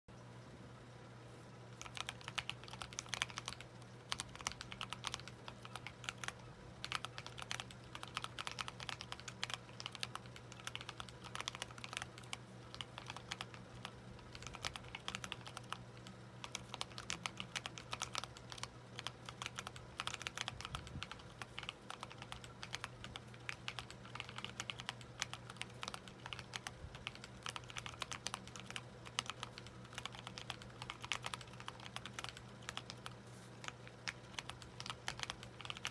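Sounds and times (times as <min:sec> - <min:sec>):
faint low hum: 0:00.1 - 0:35.9
keyboard typing clicks: 0:01.8 - 0:35.9.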